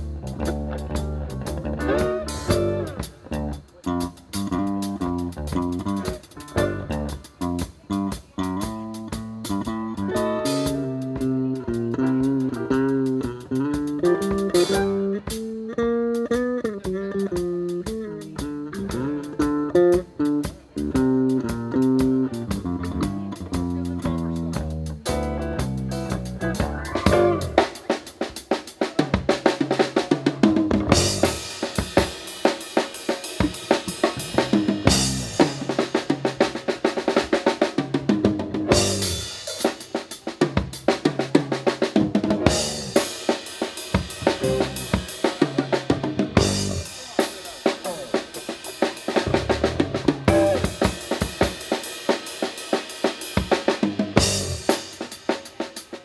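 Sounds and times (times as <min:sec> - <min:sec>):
drum solo: 0:00.0 - 0:56.0.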